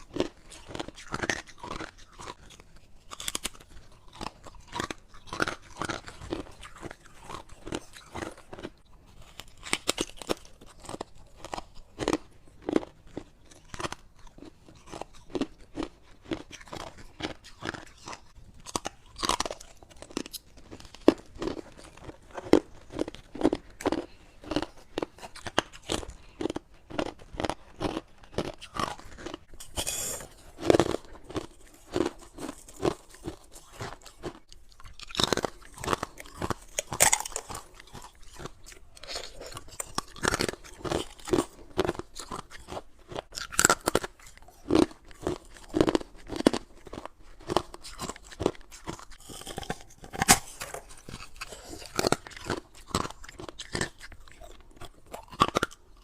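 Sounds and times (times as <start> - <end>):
person crunching ice: 0.0 - 56.0.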